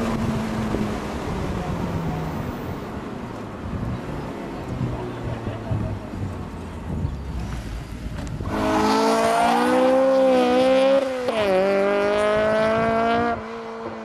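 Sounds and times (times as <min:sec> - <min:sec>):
car engine at high revs: 0:00.0 - 0:14.0.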